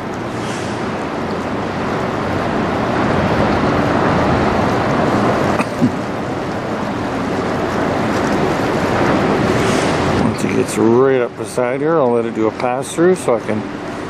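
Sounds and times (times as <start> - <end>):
faint low ship hum: 0.0 - 14.0
water rushing along ship bow: 0.0 - 14.0.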